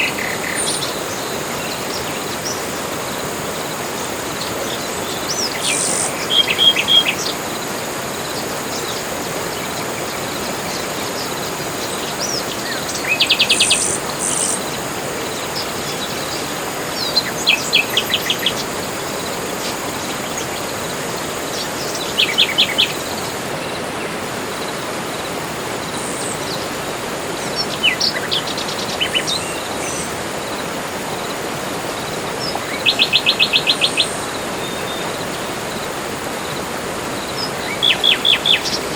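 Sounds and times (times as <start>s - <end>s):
birds singing: 0.0s - 38.9s
insects hissing: 0.0s - 38.9s.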